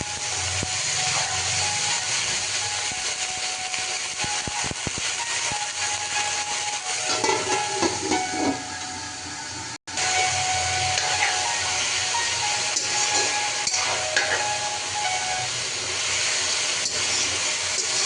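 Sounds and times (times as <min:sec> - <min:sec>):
food frying in hot oil: 0:00.0 - 0:18.0.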